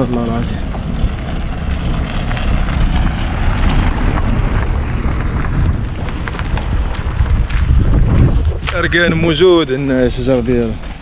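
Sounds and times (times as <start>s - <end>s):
car tyres on gravel: 0.0s - 11.0s
wind buffeting microphone: 0.0s - 11.0s.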